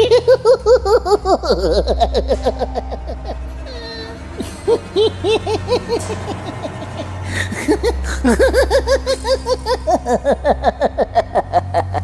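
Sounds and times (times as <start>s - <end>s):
high-pitched giggling: 0.0s - 12.0s
low hum: 0.0s - 12.0s.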